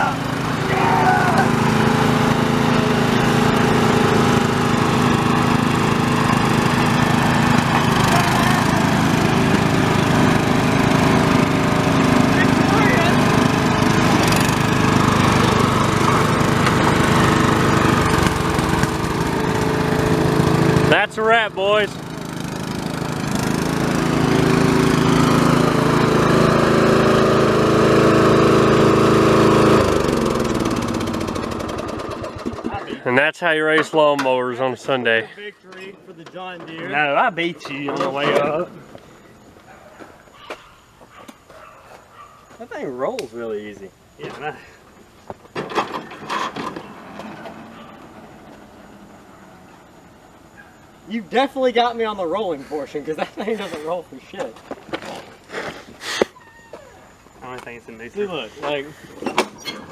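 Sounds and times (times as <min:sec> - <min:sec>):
riding lawn mower engine: 0:00.0 - 0:40.4, 0:42.1 - 0:59.9.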